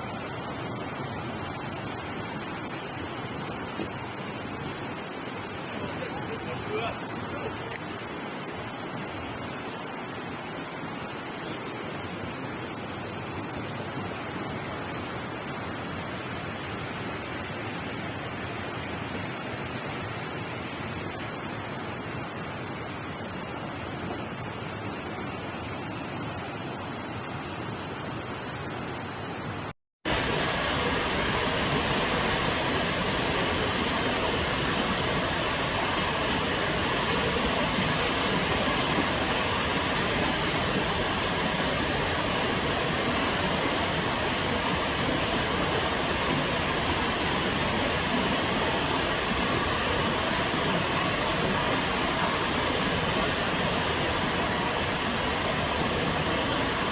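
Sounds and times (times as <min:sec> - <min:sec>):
quieter hiss: 0:00.0 - 0:56.9
rushing water roar: 0:00.0 - 0:56.9.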